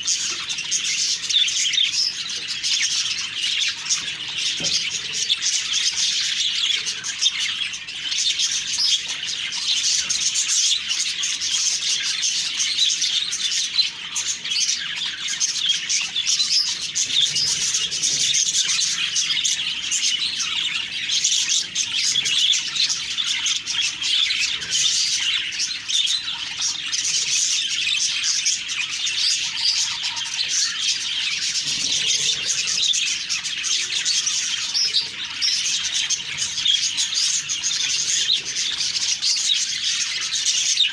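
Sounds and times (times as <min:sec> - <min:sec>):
budgerigars chattering and warbling: 0:00.0 - 0:40.9.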